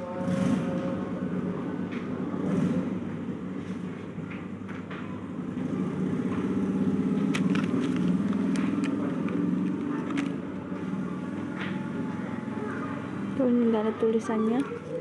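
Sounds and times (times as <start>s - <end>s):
vehicle engine running: 0.0s - 14.3s.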